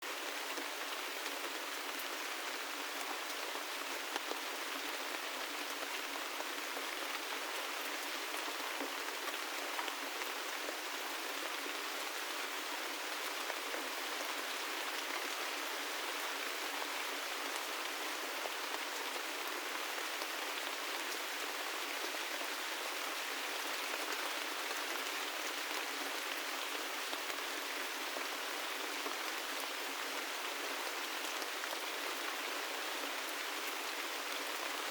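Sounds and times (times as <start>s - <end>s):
gentle rain hiss: 0.0s - 34.9s.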